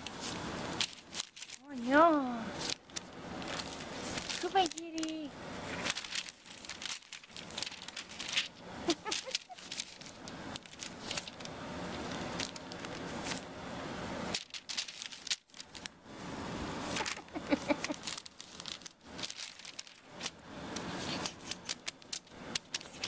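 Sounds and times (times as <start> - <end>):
glossy paper crinkling and rustling: 0.0 - 13.5, 14.2 - 16.0, 16.7 - 23.0.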